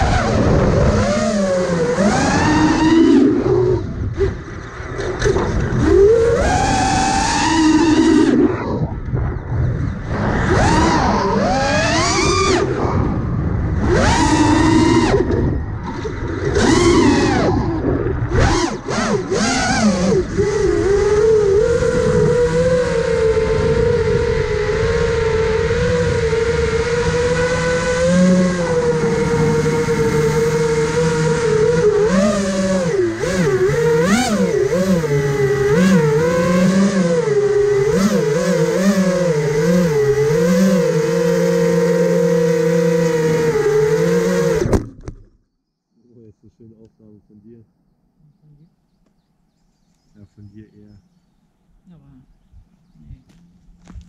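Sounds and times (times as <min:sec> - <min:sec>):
drone motors whining: 0:00.0 - 0:45.5, 0:51.9 - 0:54.0.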